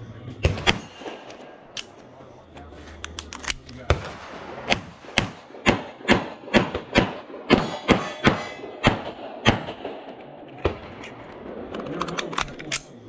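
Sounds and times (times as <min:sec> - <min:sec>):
pistol shots: 0:00.4 - 0:02.0, 0:03.2 - 0:13.0.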